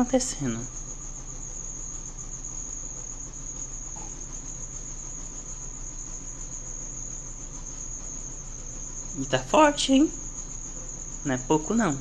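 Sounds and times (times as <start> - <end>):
crickets trilling: 0.0 - 12.0
washing machine spinning: 0.0 - 12.0.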